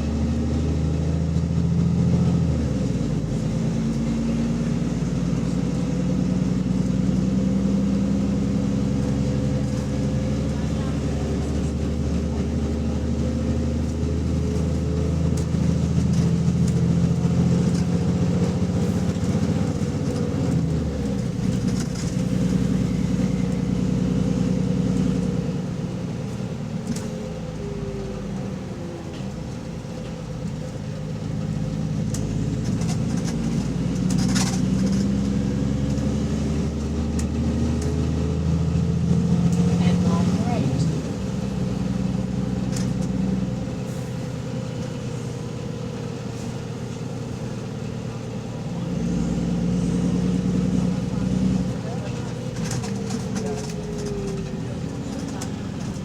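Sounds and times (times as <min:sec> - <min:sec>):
bus engine with exhaust leak: 0:00.0 - 0:56.0.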